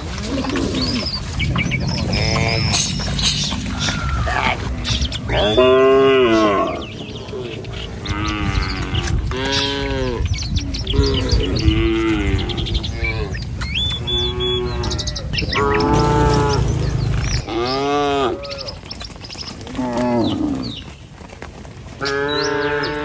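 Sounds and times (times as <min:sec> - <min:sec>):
cattle mooing: 0:00.0 - 0:18.8, 0:19.7 - 0:20.8, 0:22.0 - 0:23.0.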